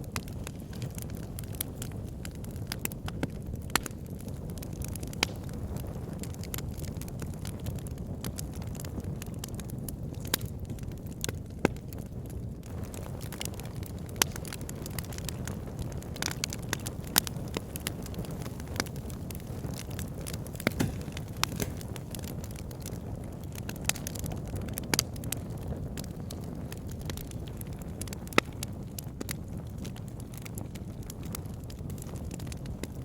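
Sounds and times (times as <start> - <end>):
low rumble of flame: 0.0 - 33.0
wood fire crackling and popping: 0.0 - 33.0.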